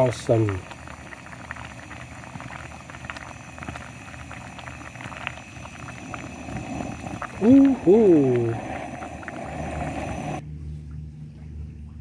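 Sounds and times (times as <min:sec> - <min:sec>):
bubbles popping: 0:00.0 - 0:10.4
stew simmering hiss: 0:00.0 - 0:10.4.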